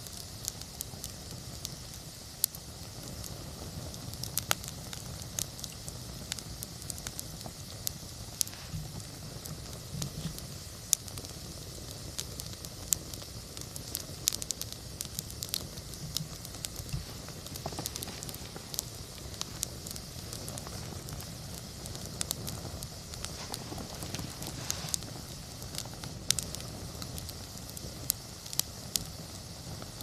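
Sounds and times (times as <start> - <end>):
campfire crackling and popping: 0.0 - 30.0
low rush of flames: 0.0 - 30.0.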